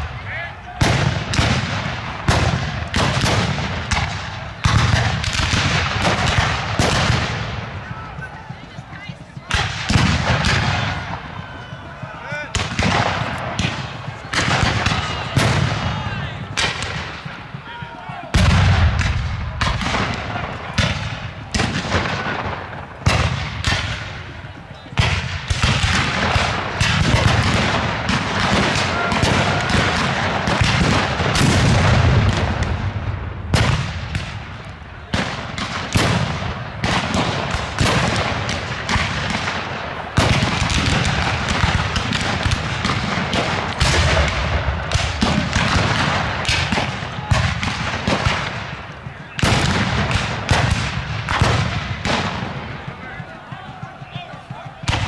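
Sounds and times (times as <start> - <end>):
muskets firing: 0.7 - 8.3, 9.4 - 55.0.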